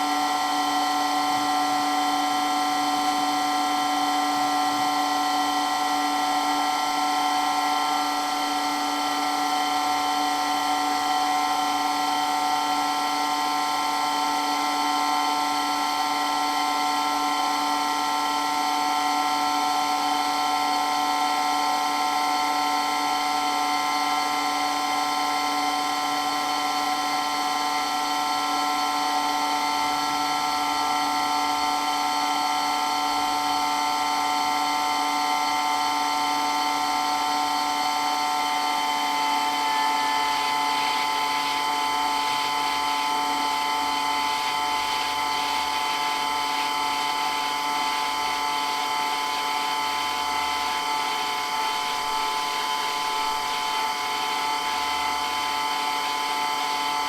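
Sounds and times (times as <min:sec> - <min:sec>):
water pump whining: 0:00.0 - 0:57.0.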